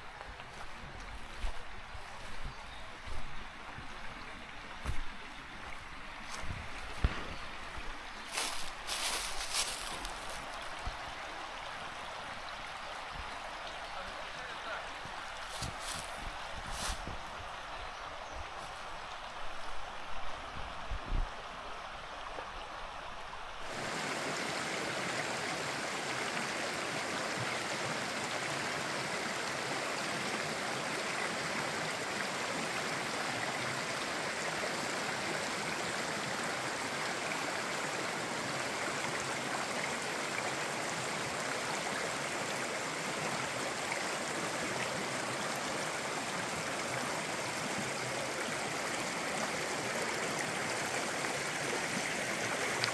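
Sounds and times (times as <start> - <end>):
mountain stream rushing: 0.0 - 52.9.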